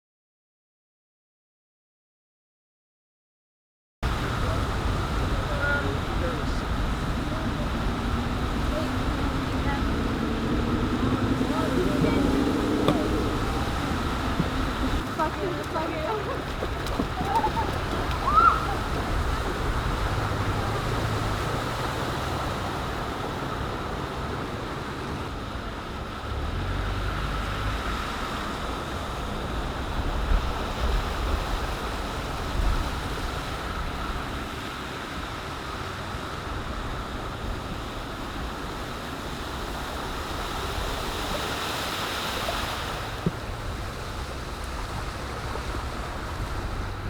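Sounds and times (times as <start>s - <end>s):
ocean surf washing: 4.0s - 47.0s
wind buffeting microphone: 4.1s - 47.0s.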